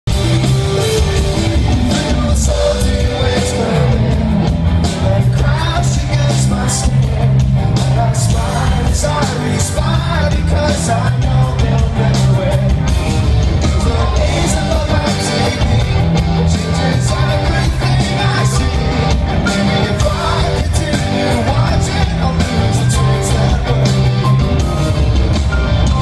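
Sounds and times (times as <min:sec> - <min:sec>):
live rock band playing: 0:00.1 - 0:26.0.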